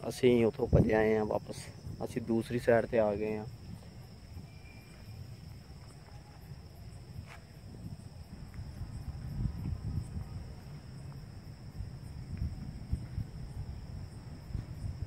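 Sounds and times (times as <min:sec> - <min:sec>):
crickets trilling: 0:00.0 - 0:15.0
low rumble on microphone: 0:00.0 - 0:15.0.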